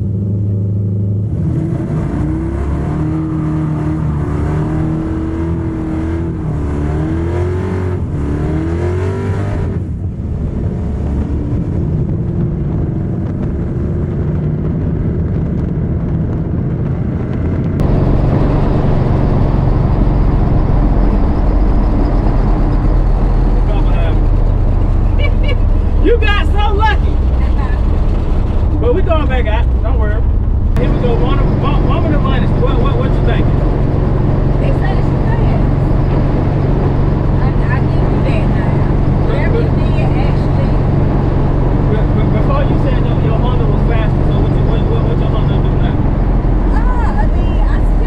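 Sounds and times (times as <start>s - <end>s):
truck engine running with whine: 0.0s - 48.0s.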